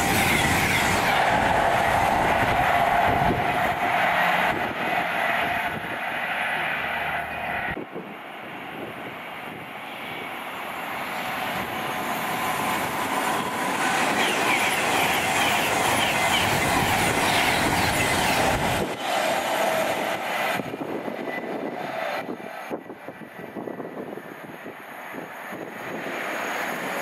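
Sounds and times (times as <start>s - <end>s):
train wheels rushing on rails: 0.0s - 27.0s.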